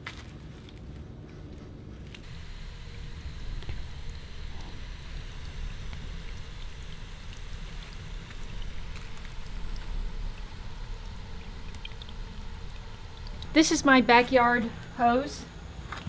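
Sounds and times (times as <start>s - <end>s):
low uneven rumble: 0.4s - 16.0s
water hissing from irrigation line: 2.2s - 16.0s.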